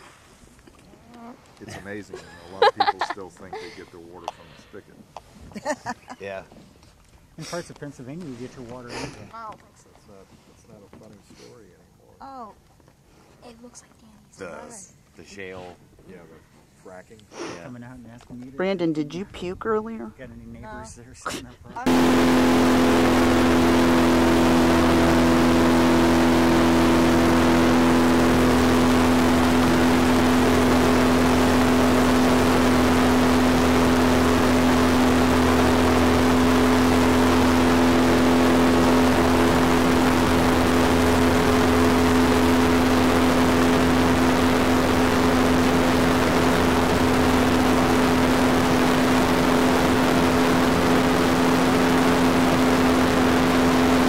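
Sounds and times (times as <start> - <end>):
airboat engine droning: 0.0 - 5.1, 7.4 - 9.5, 14.4 - 54.0.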